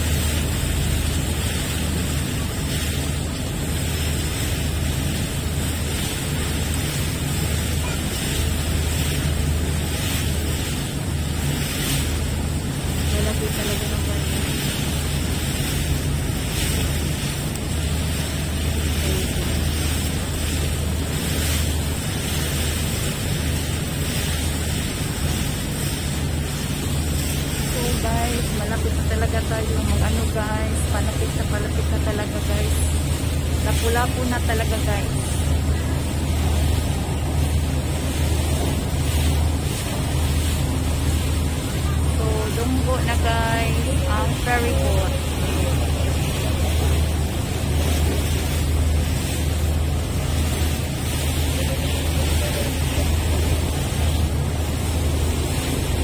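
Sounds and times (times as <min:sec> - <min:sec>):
boat engine humming: 0:00.0 - 0:56.0
water rushing past hull: 0:00.0 - 0:56.0.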